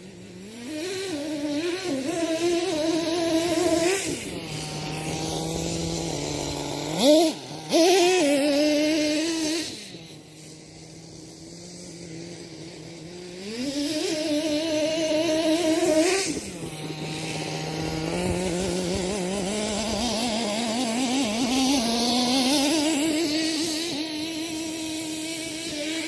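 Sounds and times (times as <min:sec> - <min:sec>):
model truck engine revving: 0:00.0 - 0:26.0.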